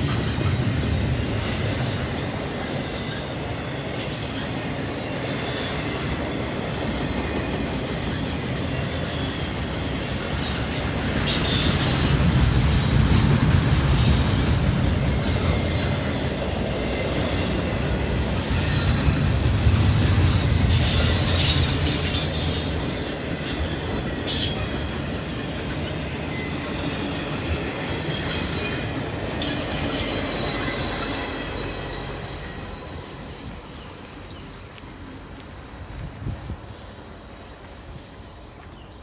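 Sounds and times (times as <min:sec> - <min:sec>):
railroad cars rolling: 0:00.0 - 0:39.0.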